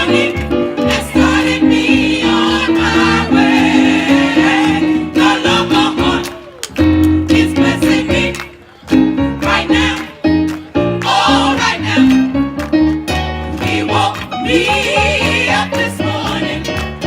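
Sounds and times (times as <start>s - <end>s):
gospel choir singing: 0.0s - 12.5s, 13.4s - 17.0s.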